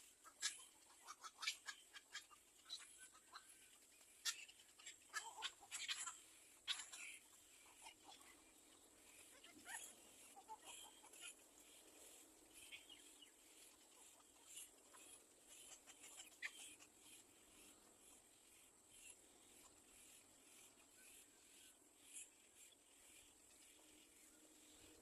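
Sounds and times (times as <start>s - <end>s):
nestling birds chirping: 0.0s - 25.0s.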